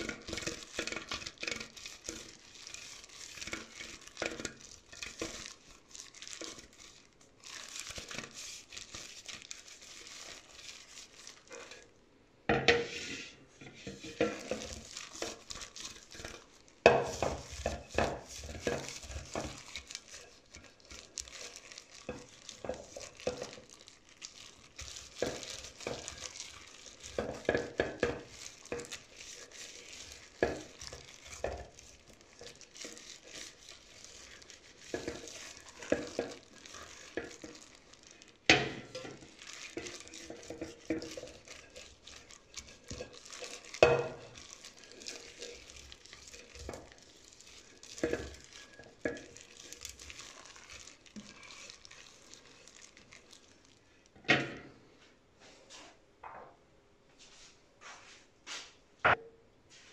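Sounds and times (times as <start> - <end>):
utensil scraping cake mixture: 0.0 - 12.0, 12.6 - 54.7.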